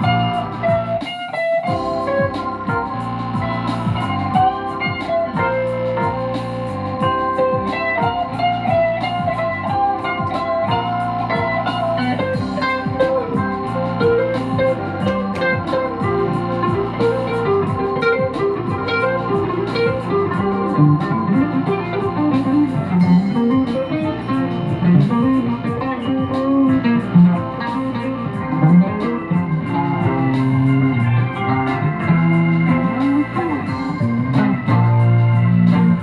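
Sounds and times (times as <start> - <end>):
plucked guitar music: 0.0 - 36.0.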